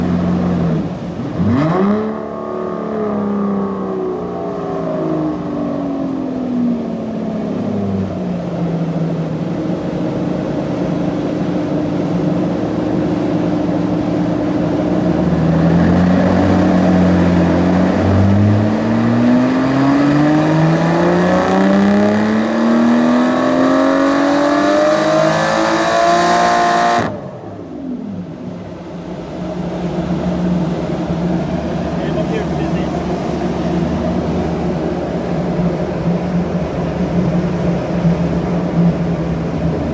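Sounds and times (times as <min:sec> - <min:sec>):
car engine revving on dynamometer: 0:00.0 - 0:28.4, 0:29.4 - 0:39.9.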